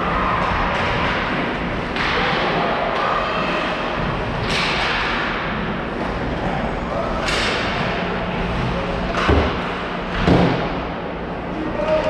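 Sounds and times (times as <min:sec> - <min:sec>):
low arena hum: 0:00.0 - 0:12.0.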